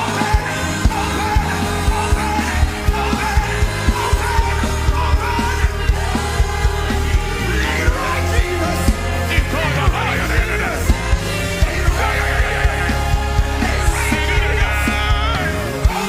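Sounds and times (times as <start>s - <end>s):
bass line: 0.0s - 16.0s
drum beat: 0.0s - 16.0s
voices singing: 0.0s - 16.0s.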